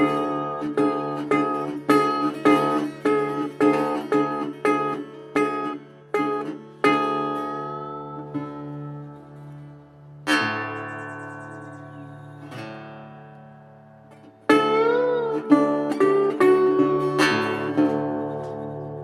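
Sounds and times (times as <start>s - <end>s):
guitar chords strummed: 0.0s - 19.0s.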